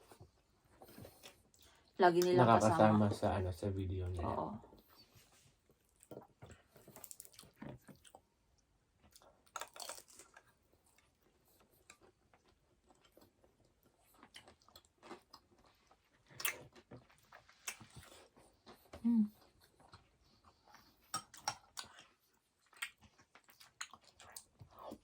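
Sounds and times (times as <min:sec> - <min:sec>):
person chewing food: 0:00.0 - 0:01.9, 0:05.6 - 0:25.0.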